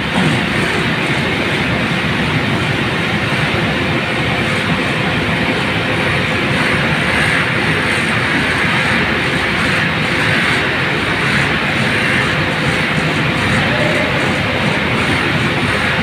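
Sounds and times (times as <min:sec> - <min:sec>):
ventilation fan blowing: 0:00.0 - 0:16.0.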